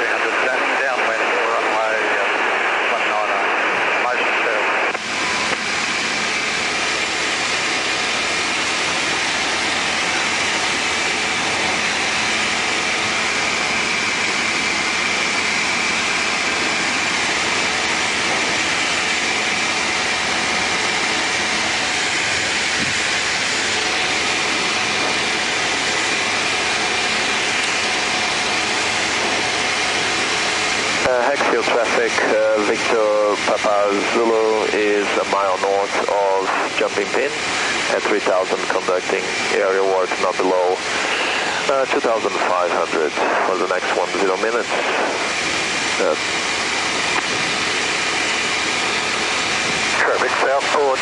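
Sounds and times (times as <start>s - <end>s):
aircraft engine drone in cabin: 0.0s - 51.0s.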